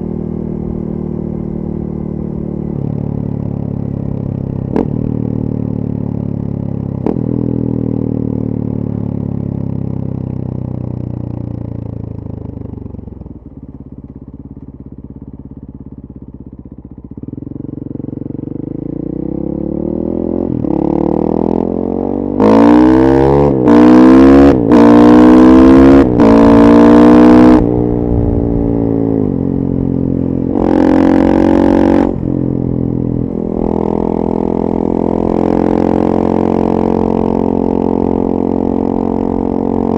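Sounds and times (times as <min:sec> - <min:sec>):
motorcycle engine revving through gears: 0:00.0 - 0:13.1, 0:17.1 - 0:39.9.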